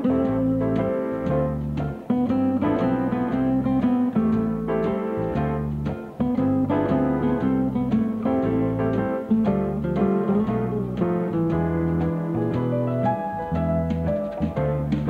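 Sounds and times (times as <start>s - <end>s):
low bass notes: 0.0s - 15.0s
plucked guitar: 0.0s - 15.0s.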